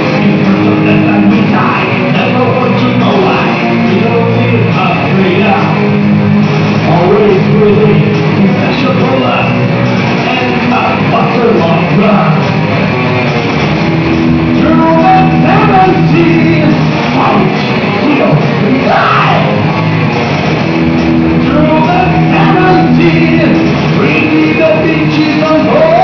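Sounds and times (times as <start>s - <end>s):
person singing: 0.0s - 6.0s, 6.8s - 12.5s, 14.5s - 19.7s, 21.4s - 26.0s
electric guitars playing: 0.0s - 26.0s
keyboard part: 0.0s - 26.0s.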